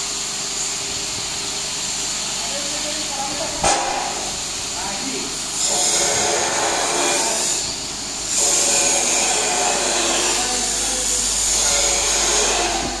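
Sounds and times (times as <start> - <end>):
grain hissing and rattling: 0.0 - 13.0.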